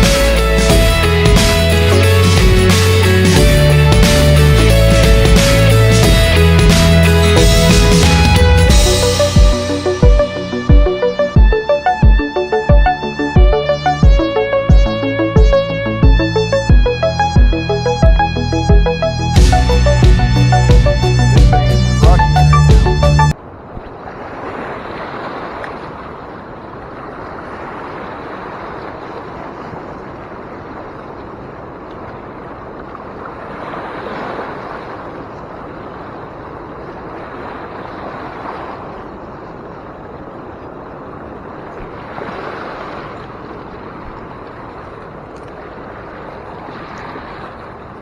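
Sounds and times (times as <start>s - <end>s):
river current rushing: 0.0s - 48.0s.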